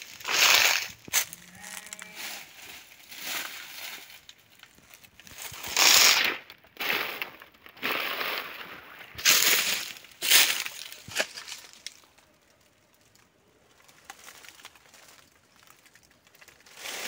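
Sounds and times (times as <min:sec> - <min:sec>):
footsteps crunching through dry leaves: 0:00.0 - 0:12.2, 0:13.7 - 0:17.0.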